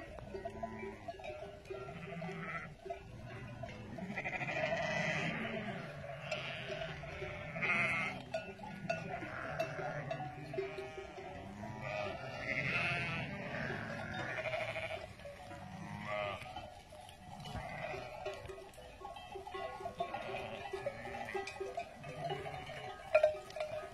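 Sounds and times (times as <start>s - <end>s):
sheep bleating: 0.0s - 23.9s.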